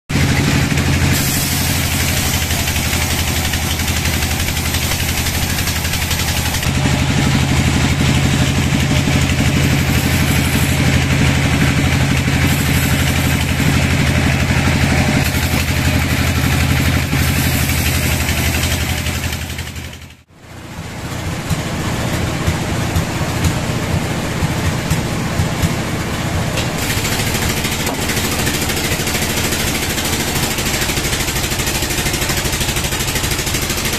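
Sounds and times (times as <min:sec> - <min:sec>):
saw blade cutting wood: 0:00.1 - 0:20.0, 0:26.6 - 0:33.9
sawmill machine drone: 0:00.1 - 0:33.9.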